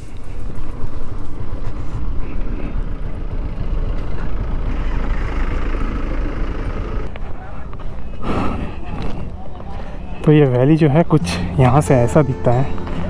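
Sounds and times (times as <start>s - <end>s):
motorcycle road noise: 0.0s - 13.0s.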